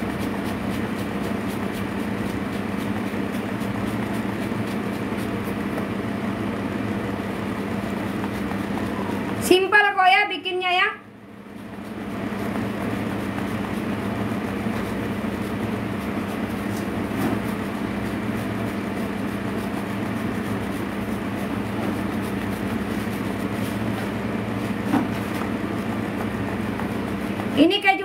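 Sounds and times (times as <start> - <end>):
cheese rasped on grater: 0.0 - 6.0, 7.2 - 9.5, 11.4 - 27.7
machine hum: 0.0 - 28.0.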